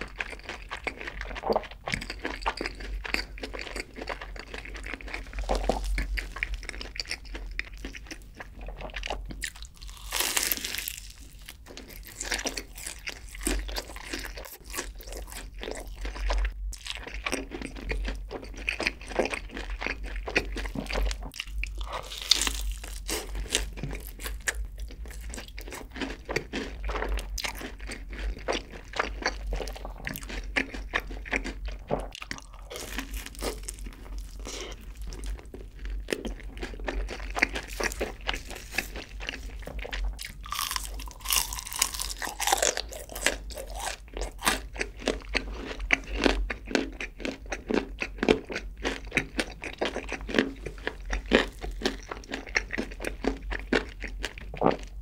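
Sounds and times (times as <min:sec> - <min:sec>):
crunching fried chicken: 0:00.0 - 0:55.0.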